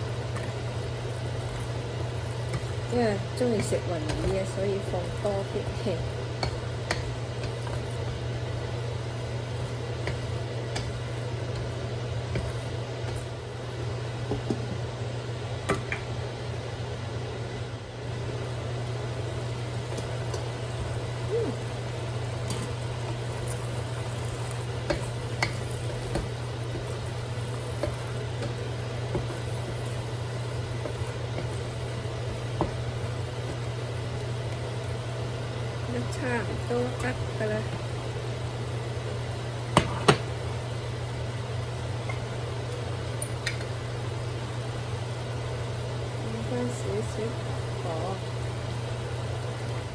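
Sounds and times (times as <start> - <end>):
cooktop humming: 0.0 - 49.9
vegetables sizzling: 0.0 - 49.9.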